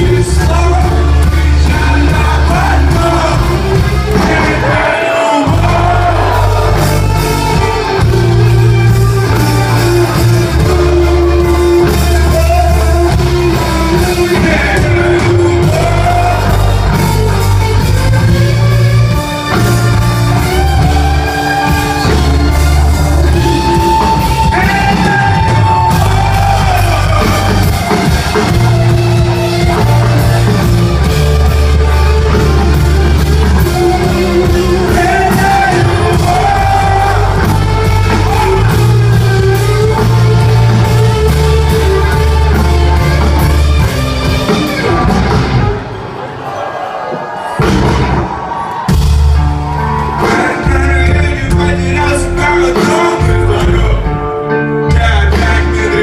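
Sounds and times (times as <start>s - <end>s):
person singing: 0.0s - 8.4s, 9.3s - 17.8s, 20.5s - 28.8s, 29.7s - 43.6s, 50.2s - 56.0s
bass line: 0.0s - 45.9s, 47.6s - 56.0s
guitar: 0.0s - 56.0s.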